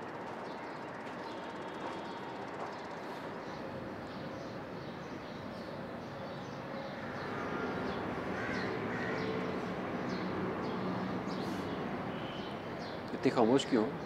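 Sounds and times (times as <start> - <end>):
birds chirping: 0.0 - 14.0
steady background hum: 0.0 - 14.0.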